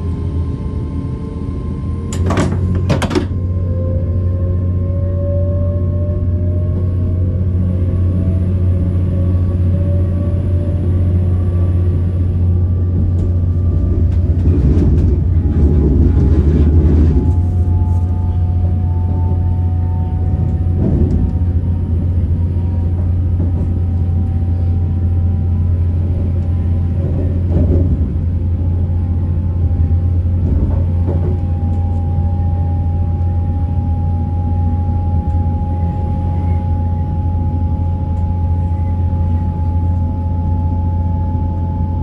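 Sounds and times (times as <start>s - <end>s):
train diesel engine drone: 0.0s - 42.0s.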